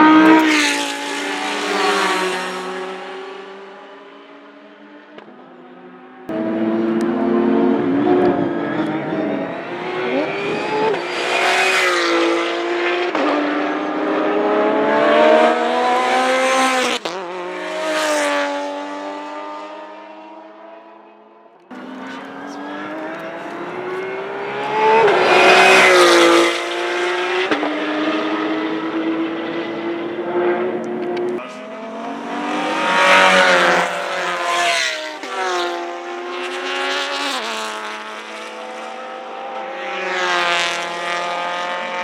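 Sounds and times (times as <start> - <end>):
race cars passing at high revs: 0.0 - 42.0.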